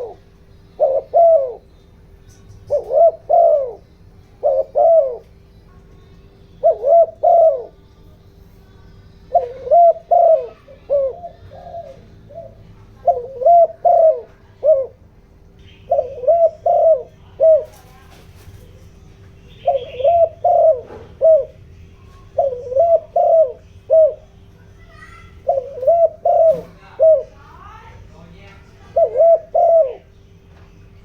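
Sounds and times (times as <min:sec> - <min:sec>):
dove cooing: 0:00.0 - 0:08.2, 0:09.1 - 0:30.2
faint steady hum: 0:00.0 - 0:31.0.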